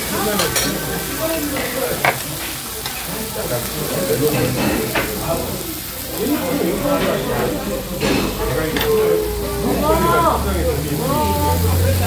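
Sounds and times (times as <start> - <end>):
food sizzling on a grill plate: 0.0 - 12.0.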